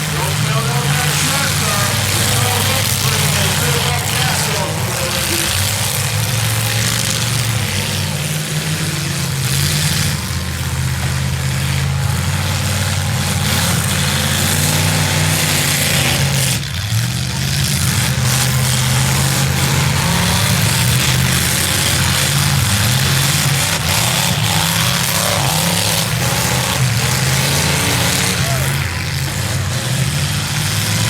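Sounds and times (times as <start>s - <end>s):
car engines revving loudly: 0.0s - 31.0s.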